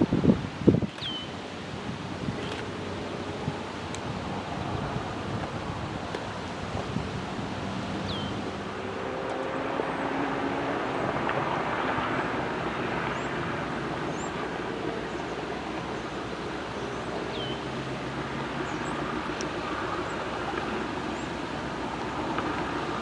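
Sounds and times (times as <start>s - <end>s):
wind noise on microphone: 0.0s - 23.0s
diesel locomotive engine: 1.7s - 23.0s.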